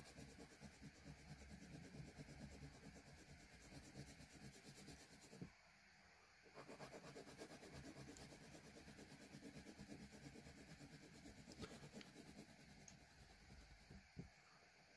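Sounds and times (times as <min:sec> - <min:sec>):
pencil scratching on paper: 0:00.0 - 0:05.5, 0:06.5 - 0:14.2.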